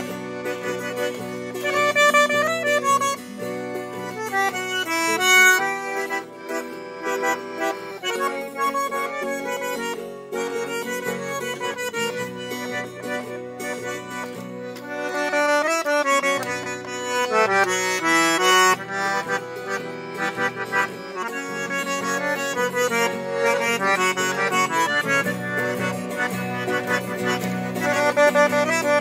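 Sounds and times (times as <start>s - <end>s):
accordion melody: 0.0s - 29.0s.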